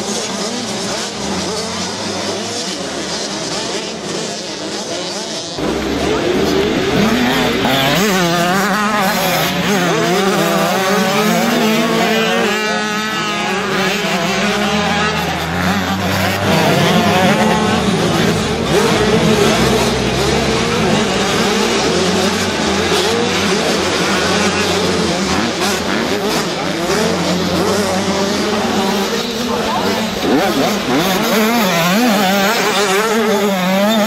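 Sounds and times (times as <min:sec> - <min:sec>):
motocross bike engines revving: 0:00.0 - 0:34.0.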